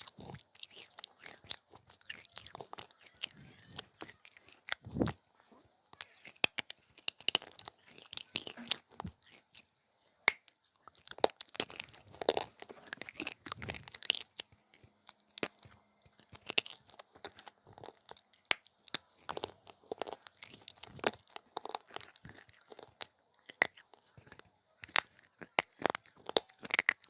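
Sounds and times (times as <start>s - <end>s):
chewing brittle clay crunches: 0.0s - 27.0s.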